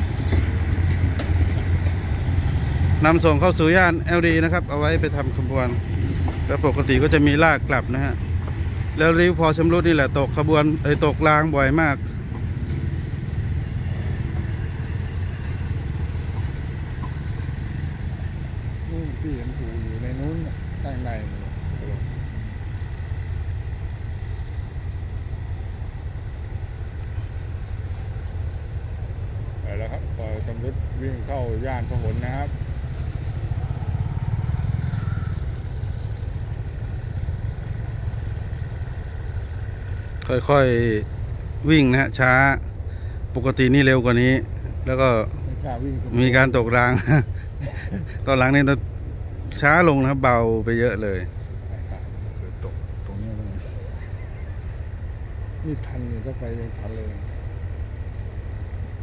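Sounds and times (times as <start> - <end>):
locomotive engine throbbing: 0.0 - 58.6
train rolling past rumbling: 0.0 - 59.0.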